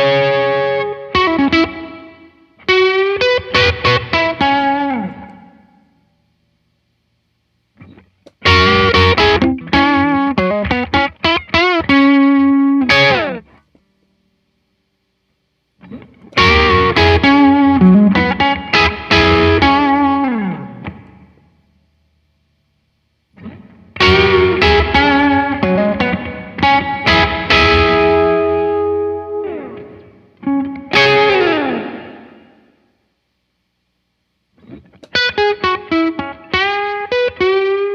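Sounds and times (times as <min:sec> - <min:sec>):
electric guitar phrases: 0:00.0 - 0:06.2, 0:07.8 - 0:14.0, 0:15.8 - 0:21.7, 0:23.3 - 0:33.1, 0:34.6 - 0:37.9.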